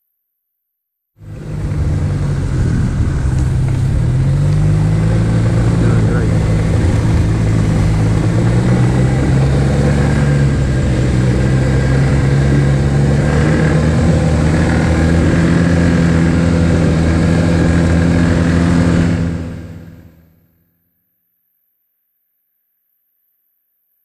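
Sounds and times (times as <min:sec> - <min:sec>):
snowmobile engine running: 0:01.2 - 0:20.5.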